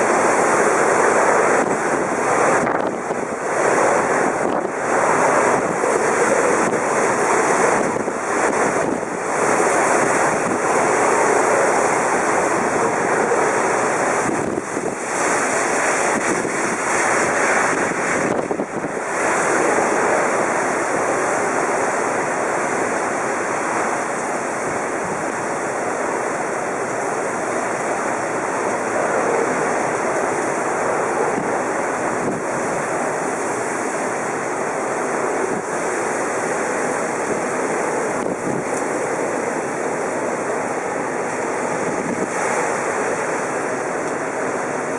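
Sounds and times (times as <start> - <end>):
heavy rain: 0.0 - 44.9
strong gusting wind: 0.0 - 44.9.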